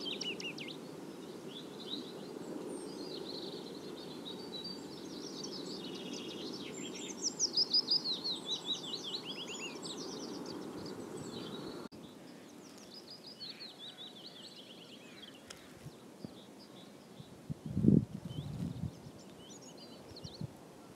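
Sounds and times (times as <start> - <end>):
warbler singing: 0.0 - 20.9.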